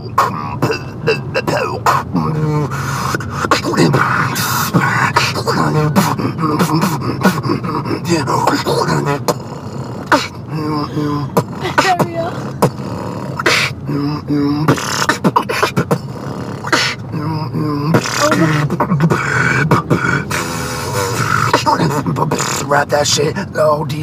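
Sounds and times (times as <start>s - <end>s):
beatboxing drum hits: 0.0s - 7.6s, 8.2s - 22.8s
hummed bass and melody notes: 0.0s - 24.0s.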